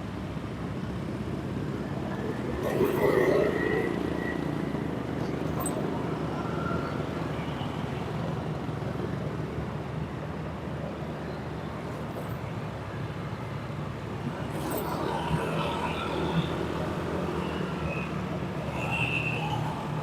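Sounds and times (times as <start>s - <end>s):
road and traffic noise: 0.0s - 20.0s.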